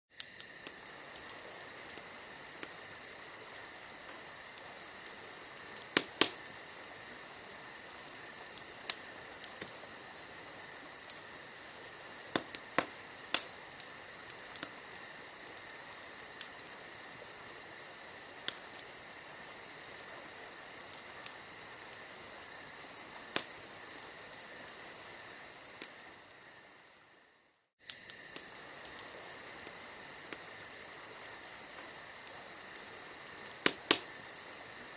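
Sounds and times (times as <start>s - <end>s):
campfire crackling and popping: 0.1s - 34.9s
crickets chirring: 0.1s - 34.9s.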